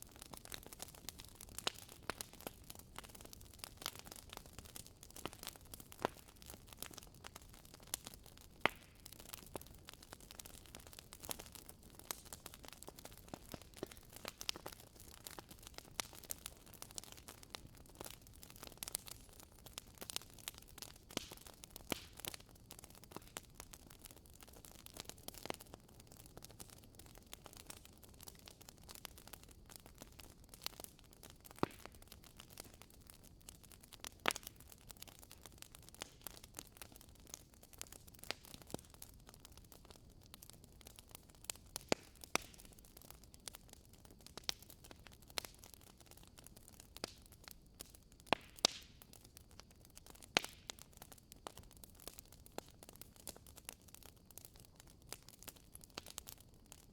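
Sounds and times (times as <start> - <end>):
bonfire crackling: 0.0 - 56.9.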